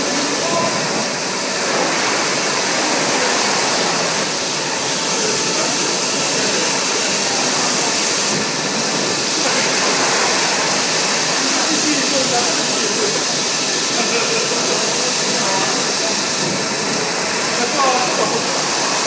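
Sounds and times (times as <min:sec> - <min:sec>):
machine whirring: 0:00.0 - 0:19.0.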